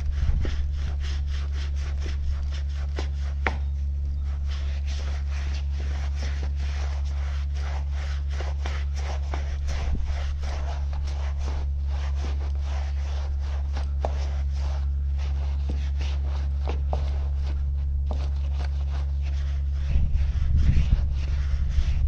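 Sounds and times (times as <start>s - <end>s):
brush scrubbing a wet wheel: 0.0s - 22.0s
steady low hum: 0.0s - 22.0s.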